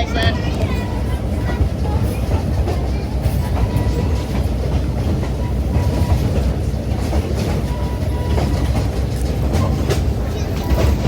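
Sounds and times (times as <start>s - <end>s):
train rumbling on track: 0.0s - 11.0s
wheels clicking on rails: 0.0s - 11.0s.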